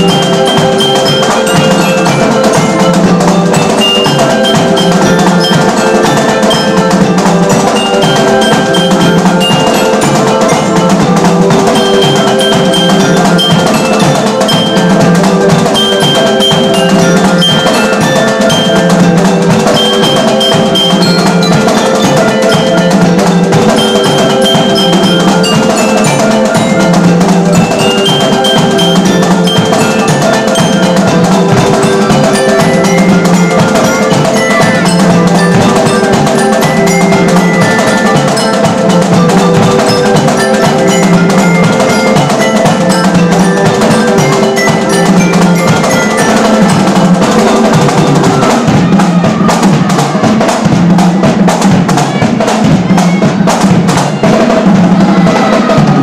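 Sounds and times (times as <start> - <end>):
glockenspiels playing a tune: 0.0 - 50.8
snare drums: 0.0 - 56.0.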